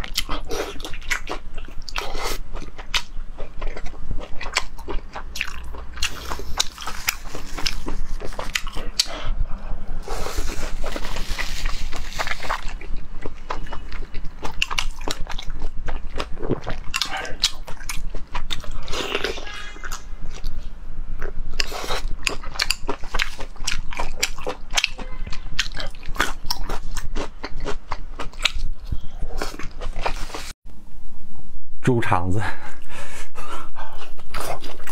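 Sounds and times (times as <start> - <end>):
wet chewing and smacking: 0.0 - 9.4, 10.4 - 20.6, 21.2 - 30.5, 33.9 - 34.9.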